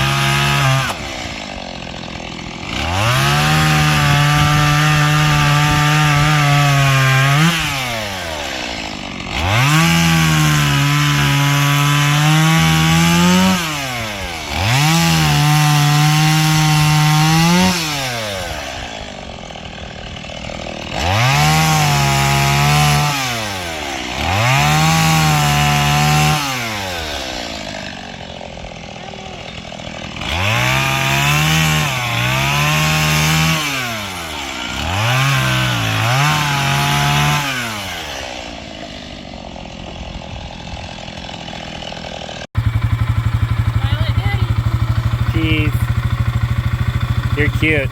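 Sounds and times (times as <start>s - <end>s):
chainsaw idling: 0.0s - 47.9s
chainsaw revving cutting wood: 0.0s - 47.9s.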